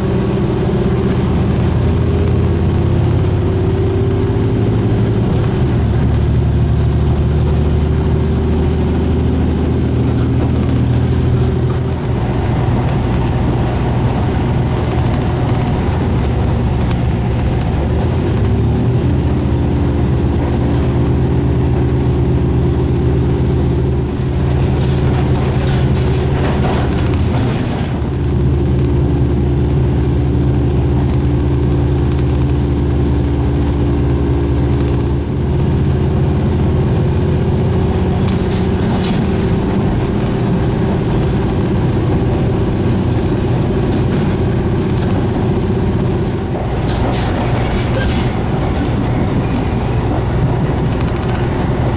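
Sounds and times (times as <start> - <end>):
diesel railcar engine drone: 0.0 - 51.9
wheels clicking on track: 0.0 - 51.9.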